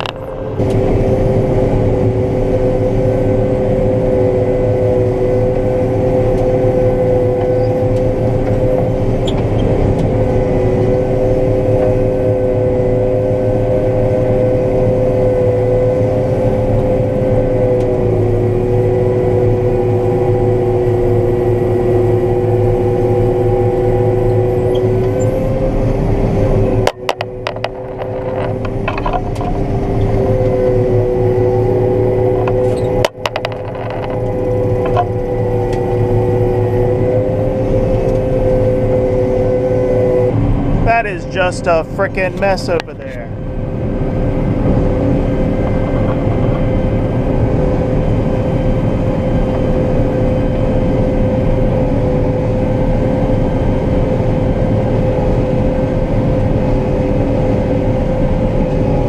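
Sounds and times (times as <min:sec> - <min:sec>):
low rumble: 0:00.0 - 0:54.9
combine harvester running: 0:00.0 - 0:59.0
whining machinery tones: 0:00.0 - 0:59.0.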